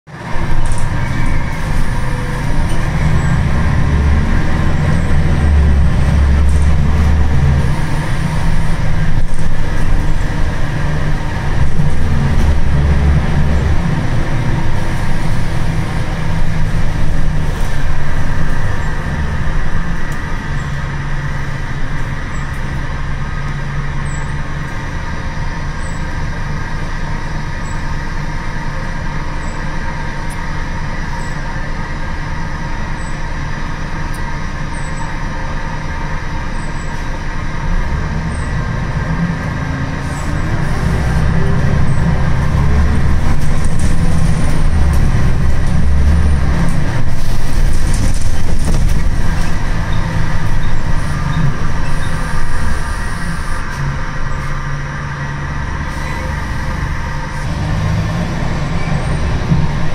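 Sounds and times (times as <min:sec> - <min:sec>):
bus diesel engine drone: 0:00.0 - 0:59.9
road noise: 0:00.0 - 0:59.9.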